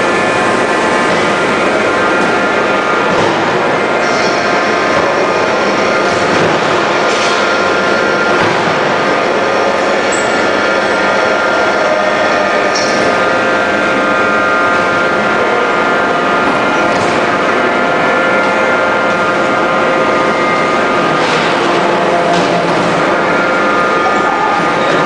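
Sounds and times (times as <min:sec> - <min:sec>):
heavy machinery droning: 0:00.0 - 0:25.0.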